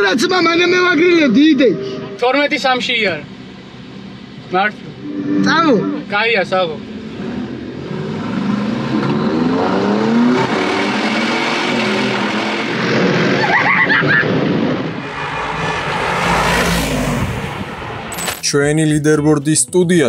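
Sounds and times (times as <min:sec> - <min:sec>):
car engine accelerating hard: 0:00.0 - 0:18.2.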